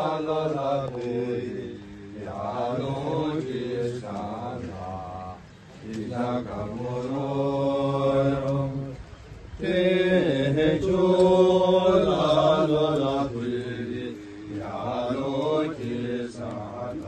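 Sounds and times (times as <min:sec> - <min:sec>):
men chanting: 0:00.0 - 0:09.0, 0:09.6 - 0:17.0.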